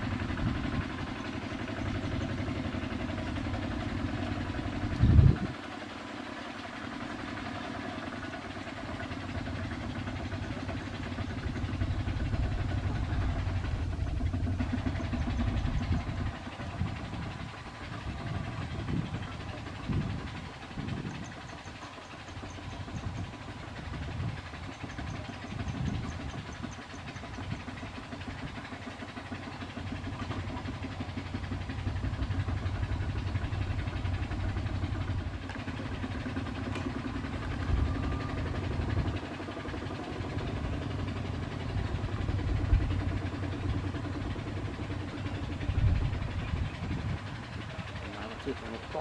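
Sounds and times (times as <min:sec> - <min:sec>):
diesel tractor engine chugging: 0:00.0 - 0:49.0.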